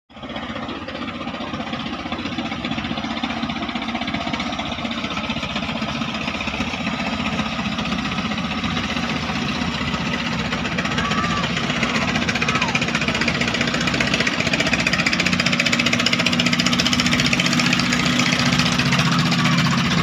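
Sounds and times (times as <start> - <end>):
boat engine chugging: 0.1 - 20.0.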